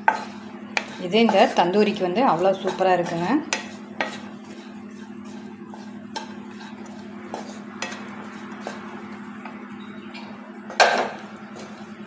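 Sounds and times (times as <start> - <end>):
spatula scraping a wok: 0.0 - 9.5, 11.5 - 12.0
steady low hum: 0.0 - 12.0.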